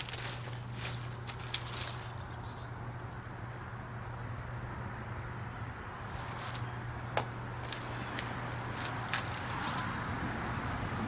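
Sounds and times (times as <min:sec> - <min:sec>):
insects trilling: 0:00.0 - 0:11.0
steady low hum: 0:00.0 - 0:11.0.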